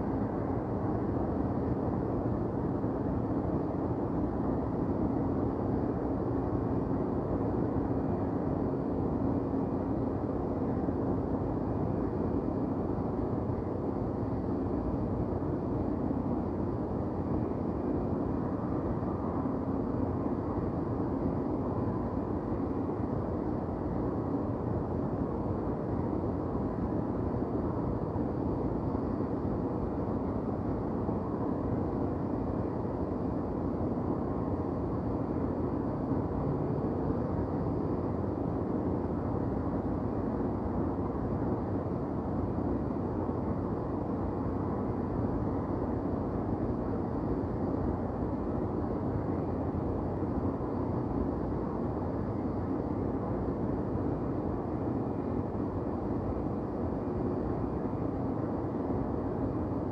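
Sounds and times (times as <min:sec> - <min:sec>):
low rumble of distant traffic: 0:00.0 - 0:59.9.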